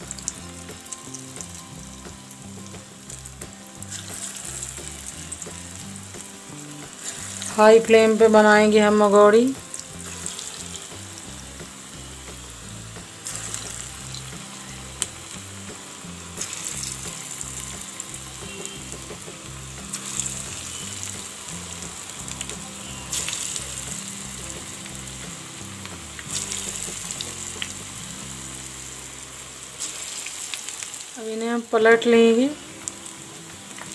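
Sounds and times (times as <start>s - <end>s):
batter sizzling in hot oil: 0.0s - 33.9s.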